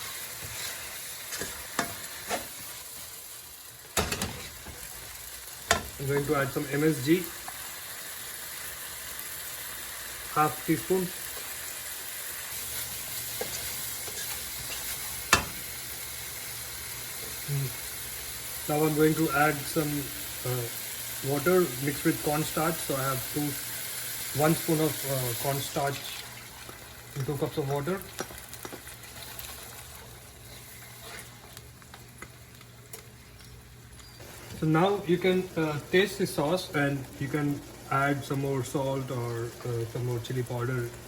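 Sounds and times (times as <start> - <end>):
sauce sizzling in a pan: 0.0 - 41.0.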